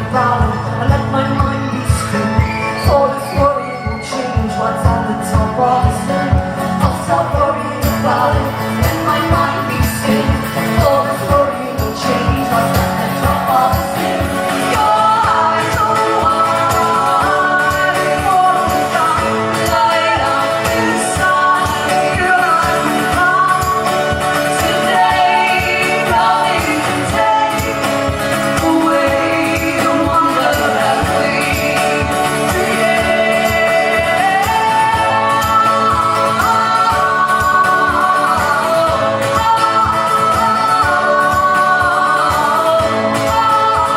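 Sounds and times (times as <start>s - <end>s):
person singing: 0.0s - 43.9s
strummed guitar rhythm: 0.0s - 43.9s.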